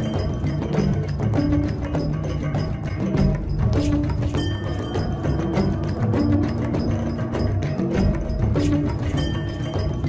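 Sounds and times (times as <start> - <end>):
music with percussive beat: 0.0 - 10.0.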